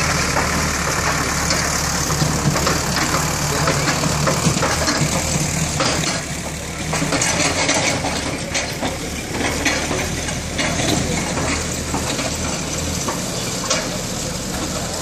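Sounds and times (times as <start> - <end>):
diesel engines running: 0.0 - 15.0
metal clanks and rattles: 0.1 - 15.0.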